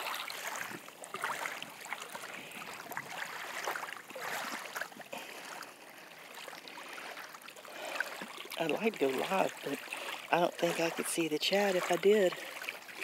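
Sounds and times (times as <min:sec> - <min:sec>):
small waves lapping on sand: 0:00.0 - 0:13.0.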